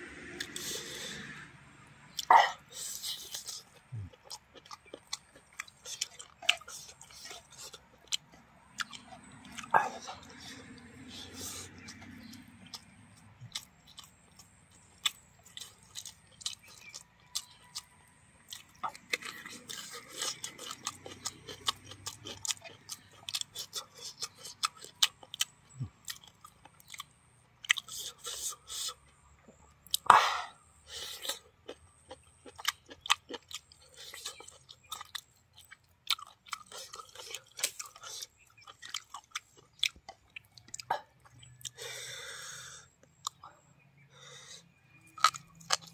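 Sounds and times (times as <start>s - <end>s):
wet chewing and smacking: 2.1s - 30.1s, 30.9s - 43.5s, 45.0s - 45.9s.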